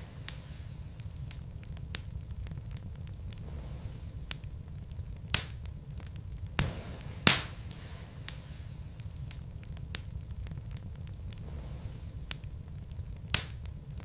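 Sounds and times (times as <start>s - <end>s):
flame rumbling with crackling: 0.0s - 14.0s
sharp pops of burning logs: 0.0s - 14.0s.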